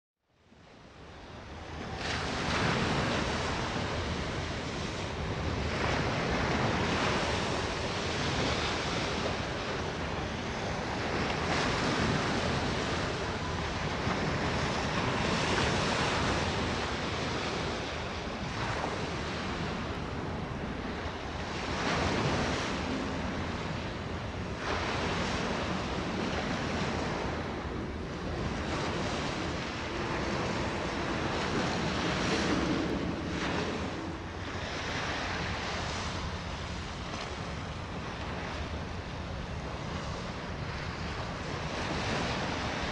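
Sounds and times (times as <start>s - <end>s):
wind buffeting microphone: 0.9s - 42.9s
waves washing on shore: 1.2s - 42.9s.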